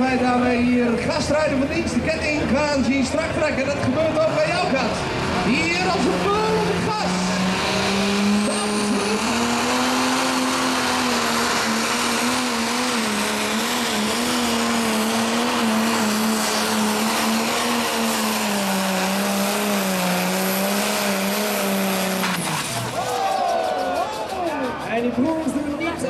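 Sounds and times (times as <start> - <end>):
tractor engine at full throttle: 0.0 - 26.0.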